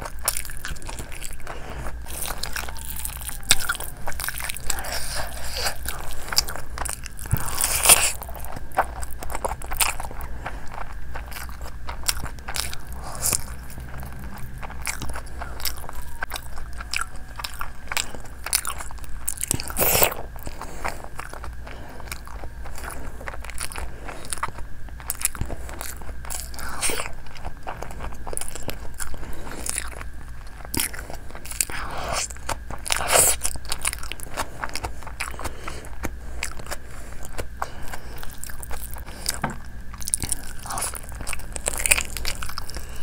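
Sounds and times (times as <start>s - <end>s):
person chewing crunchy chicken: 0.0s - 43.0s.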